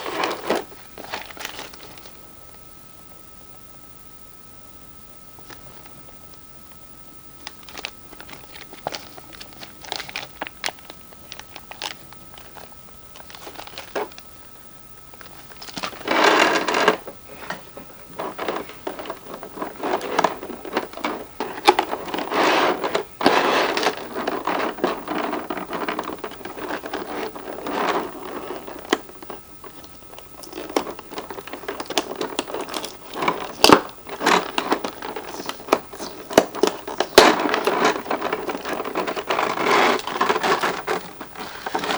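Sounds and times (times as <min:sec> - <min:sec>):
plastic and cardboard crinkling: 0:00.0 - 0:02.6, 0:07.3 - 0:41.9.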